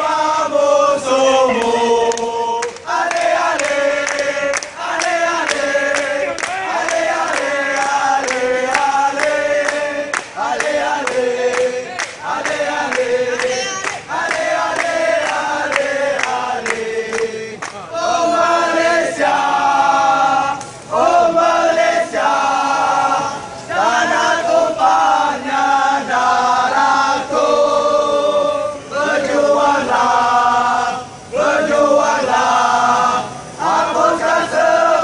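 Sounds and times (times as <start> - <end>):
football crowd singing a chant: 0.0 - 35.0.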